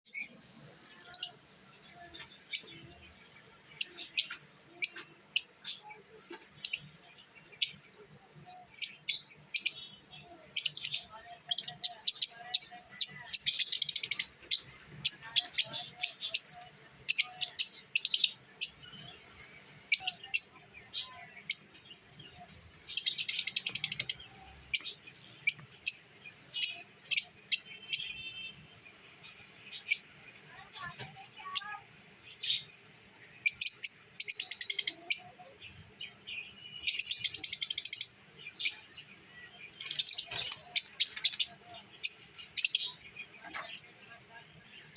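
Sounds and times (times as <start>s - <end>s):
lovebirds chirping: 0.1s - 44.9s.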